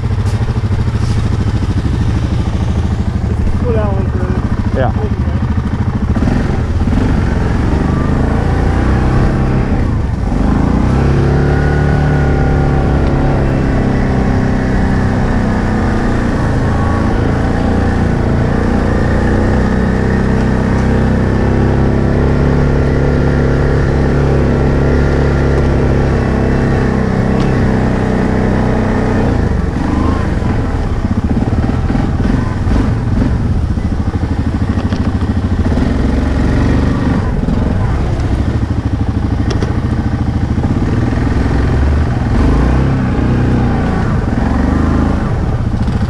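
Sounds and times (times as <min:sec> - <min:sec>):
quad engine under throttle: 0:00.0 - 0:46.0.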